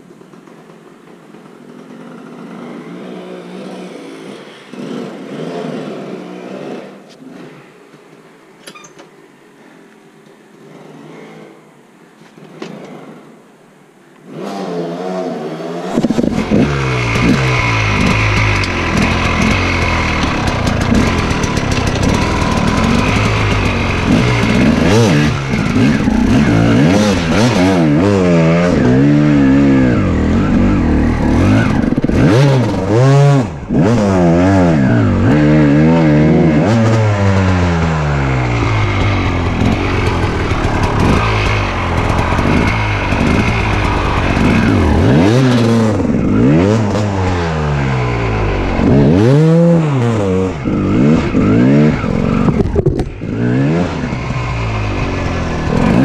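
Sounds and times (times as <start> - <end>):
motorcycle engine revving: 1.6 - 7.5, 14.3 - 56.0.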